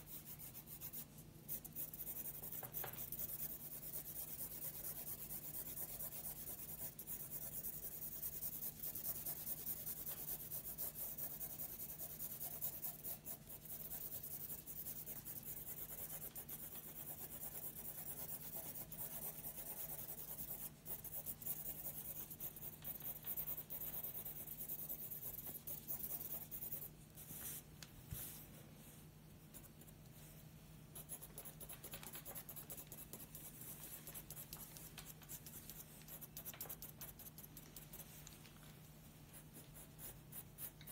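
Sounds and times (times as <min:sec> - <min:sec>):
pencil scratching on paper: 0:00.0 - 0:27.6, 0:31.0 - 0:38.3, 0:39.3 - 0:40.9.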